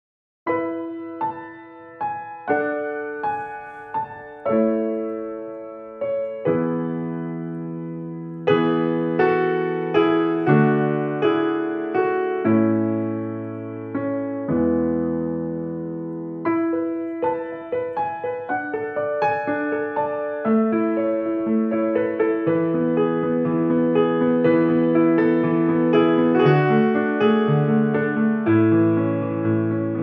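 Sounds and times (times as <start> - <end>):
slow piano piece: 0.5 - 30.0.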